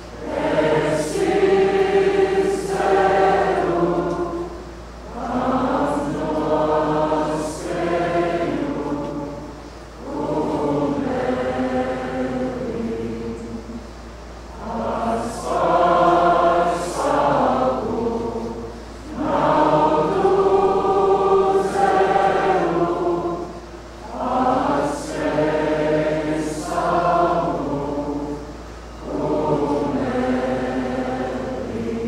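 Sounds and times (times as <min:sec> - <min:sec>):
young voices singing in choir: 0:00.0 - 0:32.0.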